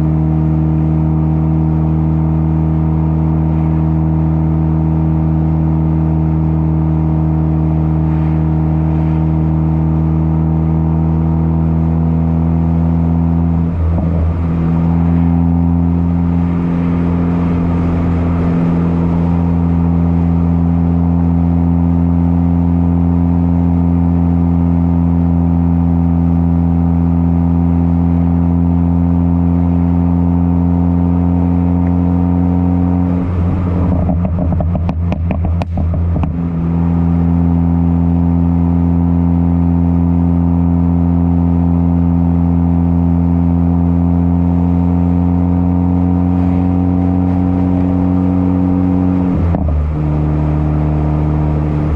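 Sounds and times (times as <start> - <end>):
car exhaust droning: 0.0 - 51.9.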